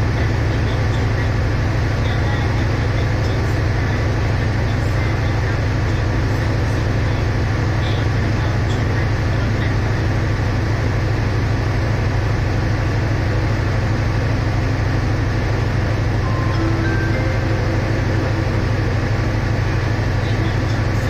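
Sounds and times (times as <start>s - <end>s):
diesel train engine idling: 0.0s - 21.0s.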